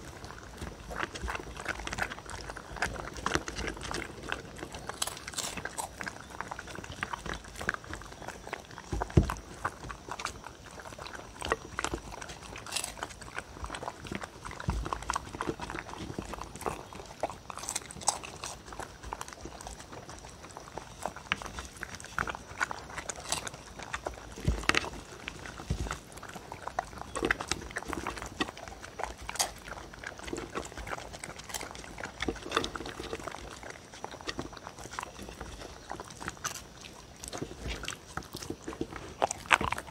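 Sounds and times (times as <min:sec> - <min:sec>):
dogs crunching cereal: 0:00.0 - 0:39.9
dogs lapping milk: 0:00.0 - 0:39.9.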